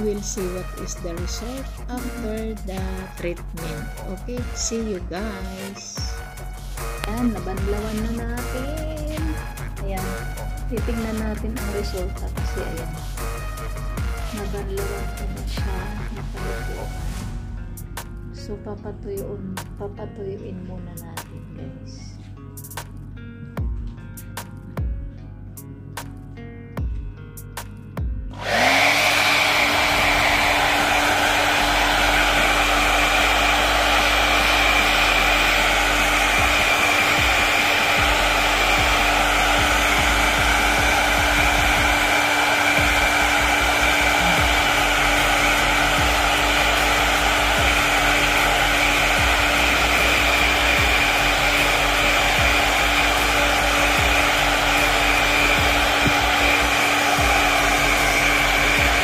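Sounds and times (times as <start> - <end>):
hair dryer whine: 0.0 - 17.3, 28.3 - 59.0.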